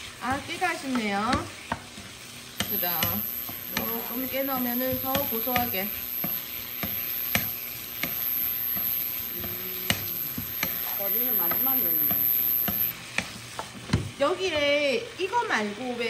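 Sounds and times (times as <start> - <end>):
zucchini sizzling in a pan: 0.0 - 16.0
spatula tapping and scraping pan: 0.2 - 14.8.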